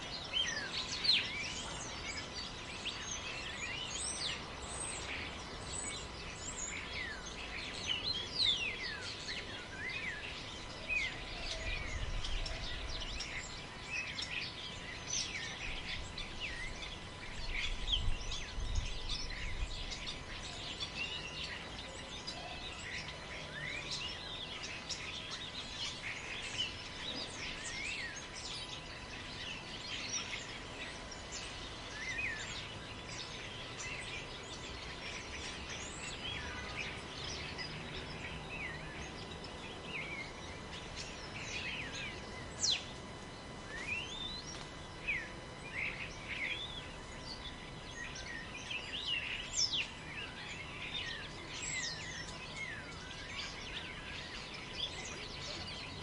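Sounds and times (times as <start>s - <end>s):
forest birds chirping: 0.0s - 56.0s
wind in trees: 0.0s - 56.0s.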